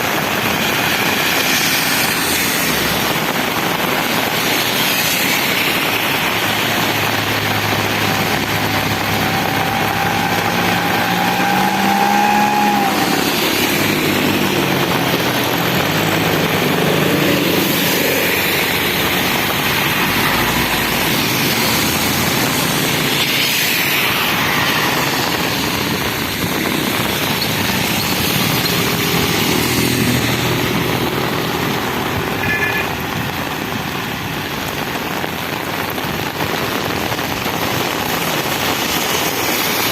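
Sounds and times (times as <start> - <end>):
rain and wet tyres hiss: 0.0 - 39.9
vehicles passing on wet road: 0.0 - 39.9.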